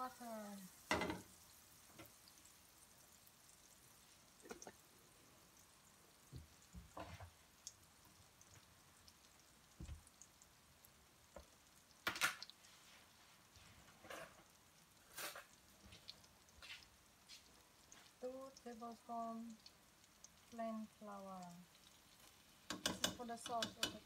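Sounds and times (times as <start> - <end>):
butter popping and crackling in a pan: 0.0 - 12.7, 13.4 - 24.0.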